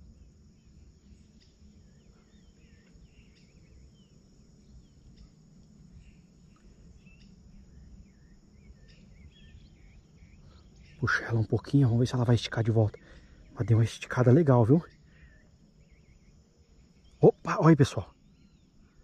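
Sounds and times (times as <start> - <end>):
birds chirping: 0.0 - 19.0
high-pitched insect buzz: 0.0 - 19.0.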